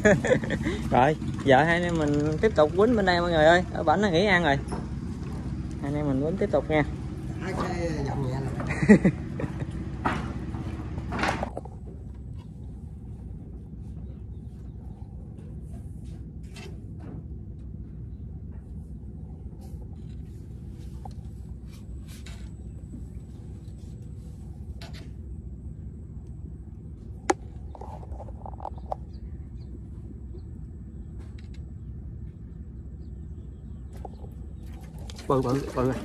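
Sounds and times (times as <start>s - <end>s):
low engine rumble: 0.0s - 36.0s.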